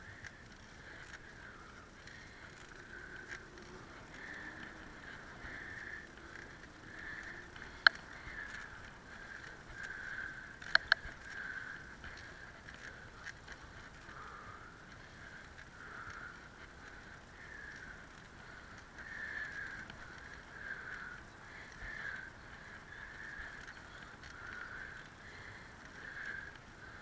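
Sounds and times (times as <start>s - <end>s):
bicycle rolling on tarmac: 0.0s - 27.0s
sharp bicycle clicks: 0.0s - 27.0s.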